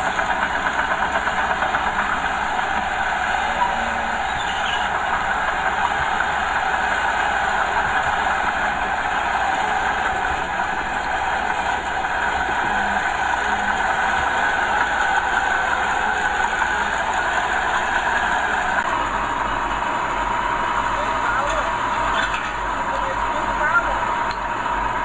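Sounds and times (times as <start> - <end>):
bulldozer running: 0.0 - 25.0.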